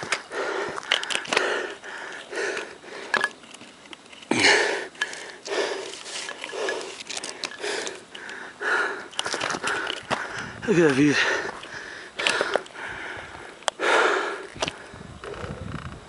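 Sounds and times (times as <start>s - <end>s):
heavy breathing: 0.0s - 3.3s, 4.3s - 15.2s.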